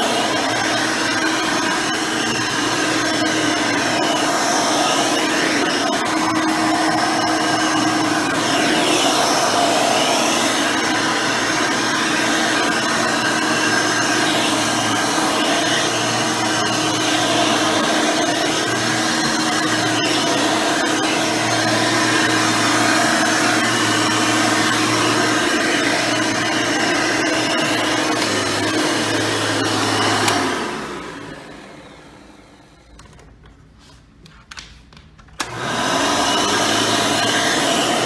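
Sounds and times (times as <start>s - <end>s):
vacuum cleaner running: 0.0s - 34.0s, 35.4s - 38.0s.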